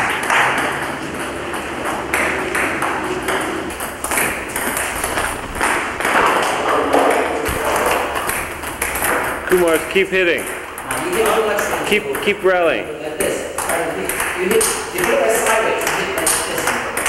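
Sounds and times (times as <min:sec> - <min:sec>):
ping-pong ball clicks: 0:00.0 - 0:17.0.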